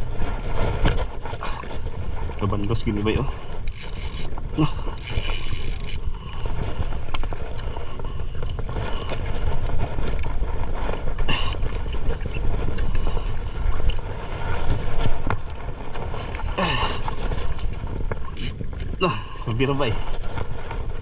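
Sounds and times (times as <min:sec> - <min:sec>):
water noise: 0:00.0 - 0:21.0
wind buffeting microphone: 0:00.0 - 0:21.0.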